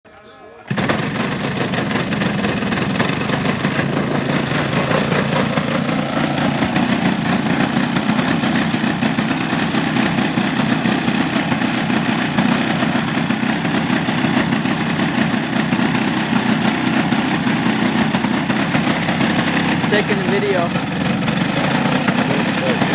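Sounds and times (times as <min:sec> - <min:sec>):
model airplane engine running: 0:00.6 - 0:22.9.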